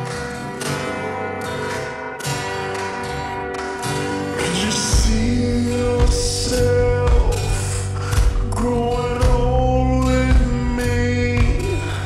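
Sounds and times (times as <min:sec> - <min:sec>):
slowed pop song with reverb: 0:00.0 - 0:12.0.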